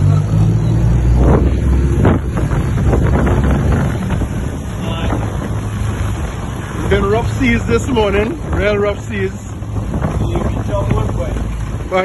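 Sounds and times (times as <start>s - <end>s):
low rumble of boat and waves: 0.0s - 12.0s
wind buffeting microphone: 0.0s - 12.0s.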